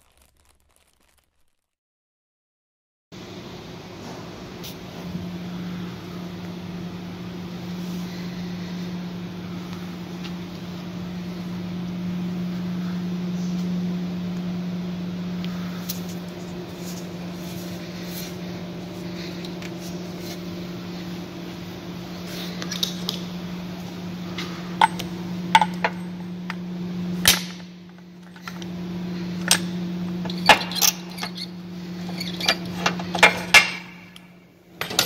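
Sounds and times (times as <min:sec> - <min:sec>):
steady mechanical hum: 0:03.2 - 0:35.0.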